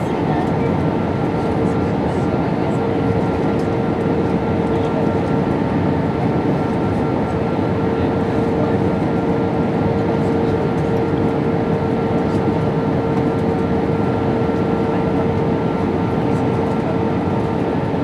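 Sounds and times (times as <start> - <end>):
airflow rush in plane cabin: 0.0 - 18.0
jet engines humming: 0.0 - 18.0.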